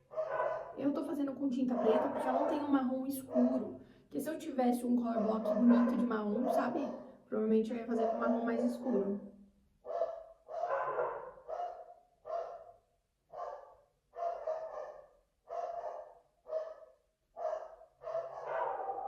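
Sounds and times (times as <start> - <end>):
dogs barking: 0.0 - 0.9, 1.6 - 3.7, 5.1 - 7.2, 7.8 - 9.2, 9.8 - 19.0.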